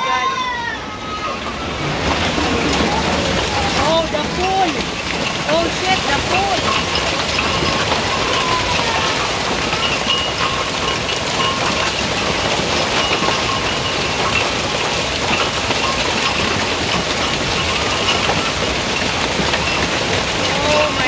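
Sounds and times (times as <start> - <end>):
hail clattering on pool: 0.0 - 21.0.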